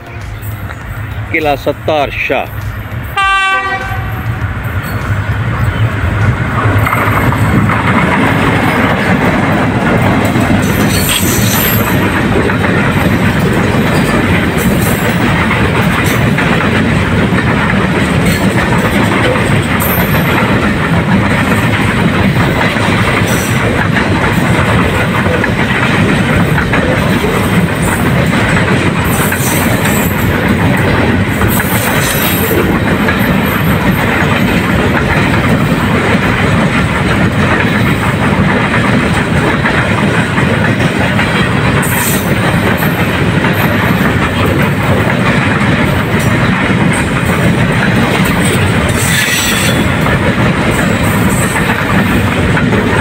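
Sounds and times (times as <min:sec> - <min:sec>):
freight train wheels rolling on rails: 0:00.0 - 0:53.0.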